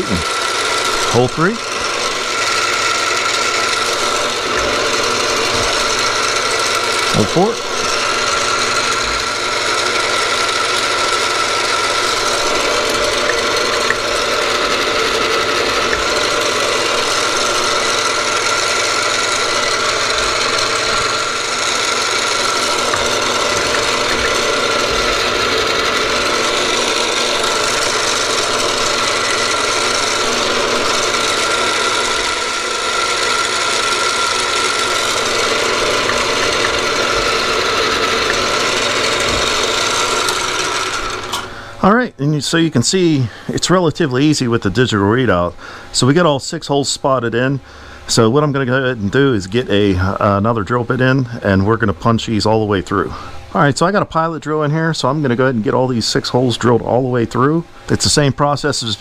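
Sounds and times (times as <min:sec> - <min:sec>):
milling machine running: 0:00.0 - 0:59.0.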